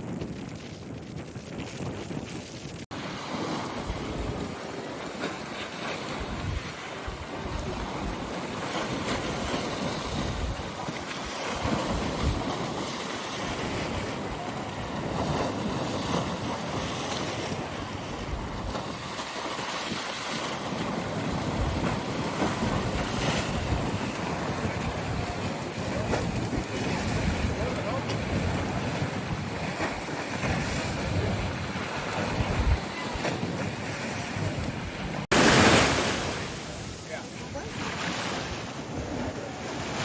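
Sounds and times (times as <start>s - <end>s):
waves breaking: 0.0s - 40.0s
wind buffeting microphone: 0.0s - 40.0s.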